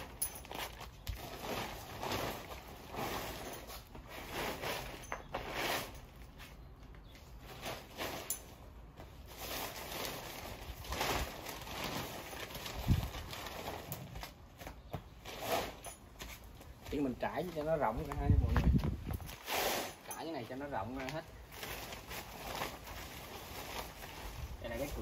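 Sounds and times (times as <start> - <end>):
tent fabric rustling and crinkling: 0.0 - 6.7, 7.3 - 25.0.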